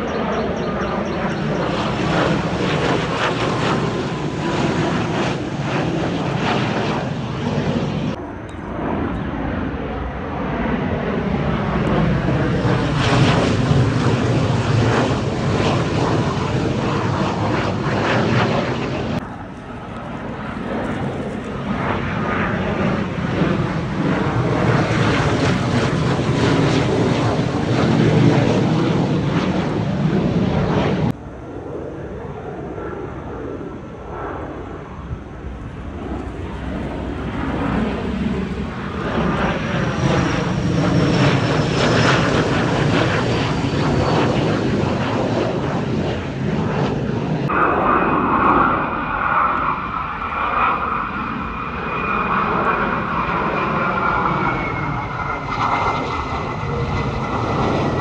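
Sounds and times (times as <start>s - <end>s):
jet aircraft flying low: 0.0s - 58.0s.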